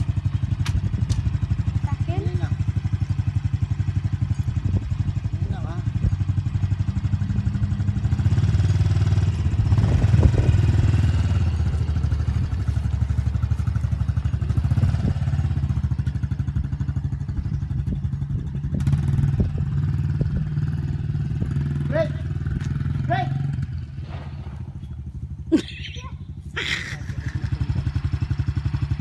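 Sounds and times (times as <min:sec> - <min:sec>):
dirt bike engine running: 0:00.0 - 0:29.0.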